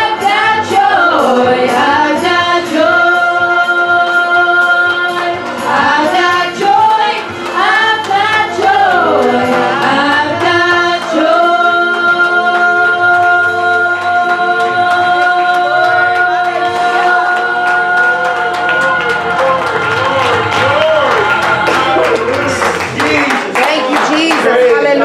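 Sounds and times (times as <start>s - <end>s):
gospel singing with congregation: 0.0s - 25.0s.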